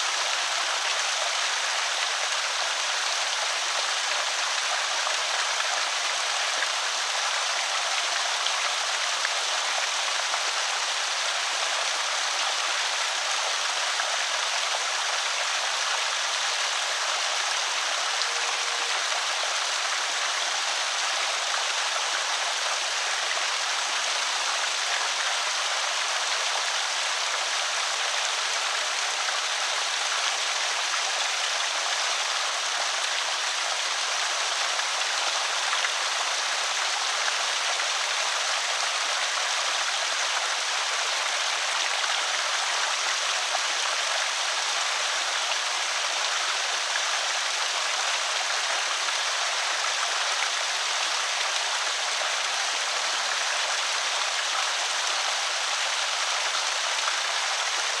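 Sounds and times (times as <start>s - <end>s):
water pouring over spillway: 0.0s - 58.0s.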